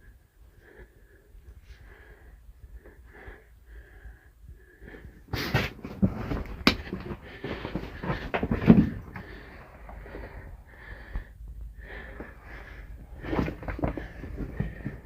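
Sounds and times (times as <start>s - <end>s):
person breathing faintly: 0.0s - 15.0s.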